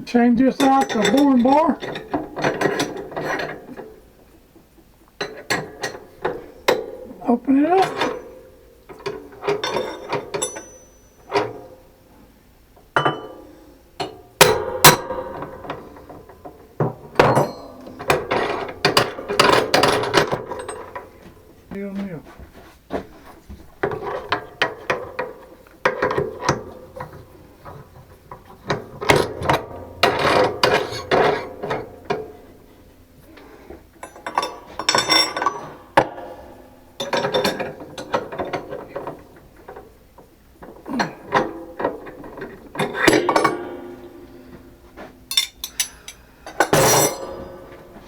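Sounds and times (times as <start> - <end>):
metal parts clanking and rattling: 0.4 - 11.9, 12.8 - 48.0.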